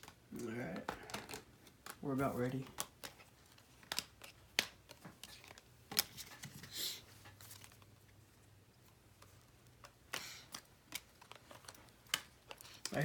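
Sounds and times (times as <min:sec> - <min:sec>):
cards clicking and tapping: 0:00.0 - 0:08.0, 0:08.8 - 0:13.0
cards rustling: 0:00.0 - 0:13.0.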